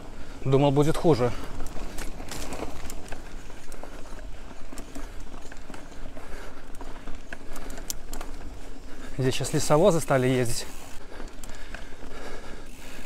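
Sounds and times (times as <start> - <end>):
bike clicks and rattles: 0.0 - 13.0
bike tyres on dirt track: 0.0 - 13.0.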